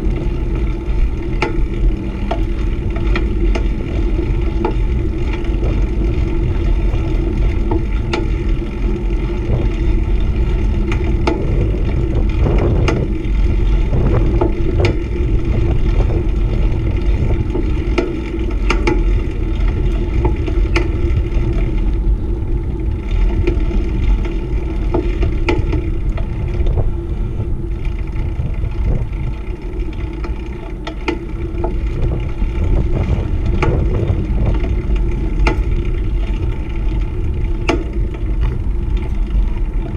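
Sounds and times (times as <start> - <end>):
bike clicking and rattling: 0.0 - 39.9
tyres rolling on rough asphalt: 0.0 - 39.9
wind rumbling on microphone: 0.0 - 39.9.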